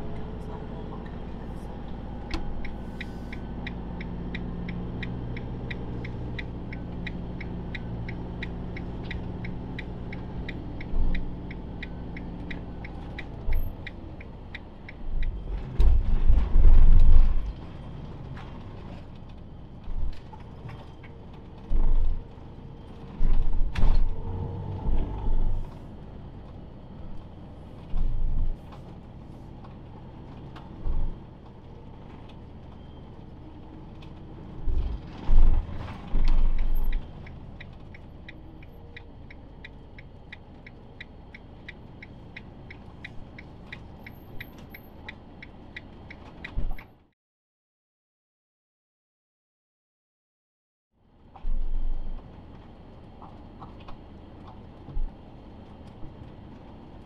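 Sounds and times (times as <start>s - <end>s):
vehicle engine running: 0.0s - 47.1s.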